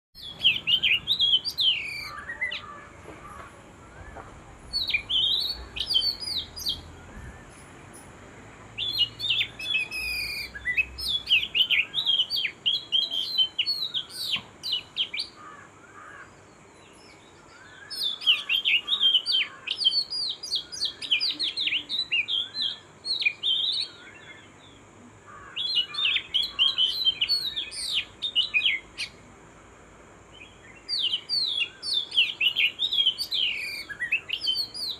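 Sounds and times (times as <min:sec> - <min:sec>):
fainter lower bird calls: 0:00.2 - 0:29.3, 0:30.3 - 0:34.9
songbird singing: 0:00.2 - 0:34.9.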